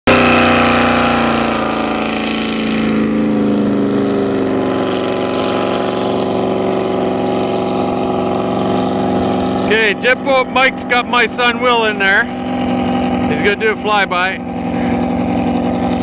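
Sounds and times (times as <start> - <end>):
jet boat engine droning: 0.1 - 16.0.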